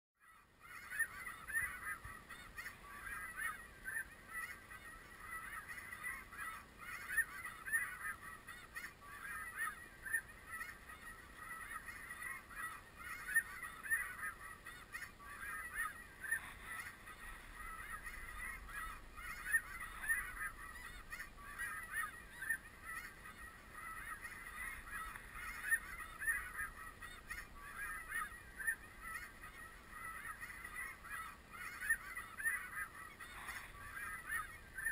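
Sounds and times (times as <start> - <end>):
geese calling: 0.2 - 34.9.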